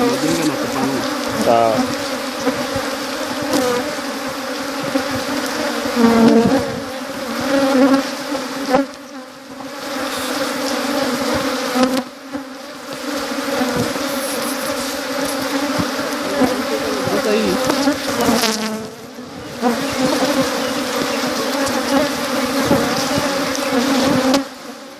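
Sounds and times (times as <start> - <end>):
honeybees buzzing: 0.0 - 24.9.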